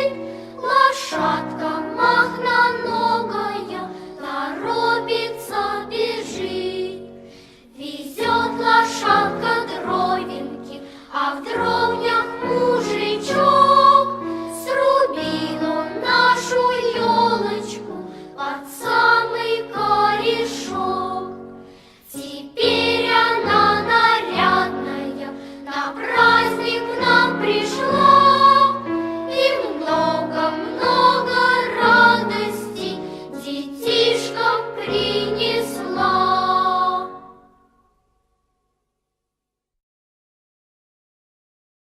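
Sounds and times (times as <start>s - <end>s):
choir singing with instrumental backing: 0.0s - 37.6s.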